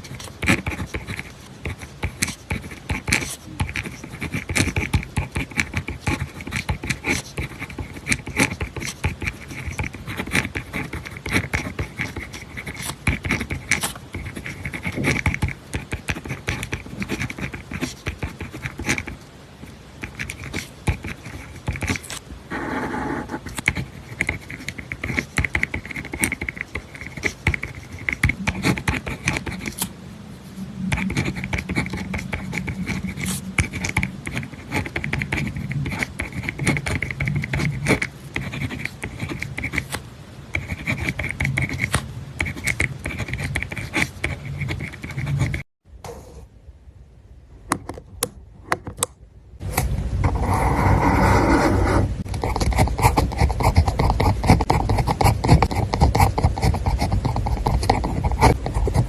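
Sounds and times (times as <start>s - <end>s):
pen scratching on paper: 0.0s - 29.9s, 30.5s - 46.3s, 49.6s - 59.0s
low steady hum: 0.0s - 59.0s.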